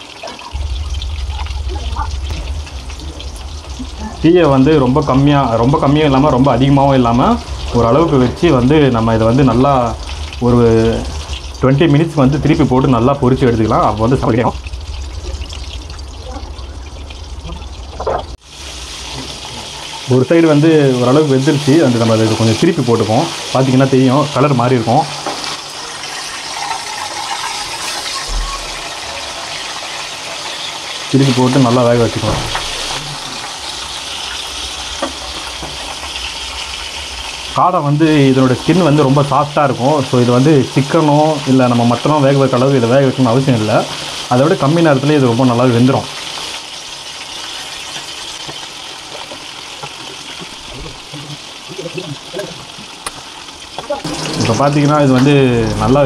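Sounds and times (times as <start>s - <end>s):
meat sizzling in hot oil: 0.0s - 56.0s.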